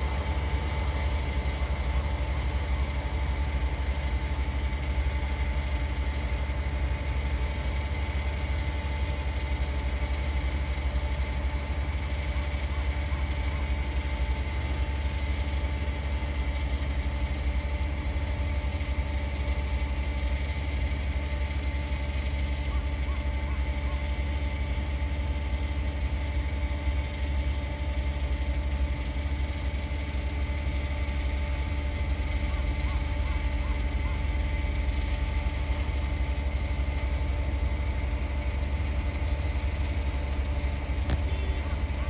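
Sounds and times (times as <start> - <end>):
distant jet engines idling: 0.0 - 42.0.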